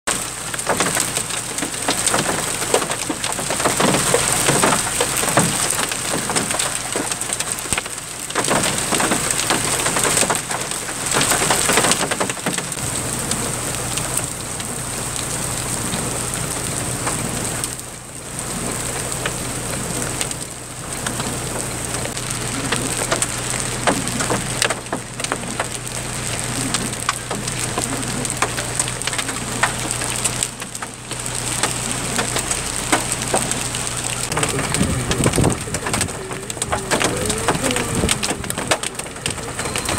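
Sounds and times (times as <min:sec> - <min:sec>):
hailstones clattering: 0:00.1 - 0:39.9
heavy rain rushing: 0:00.1 - 0:39.9.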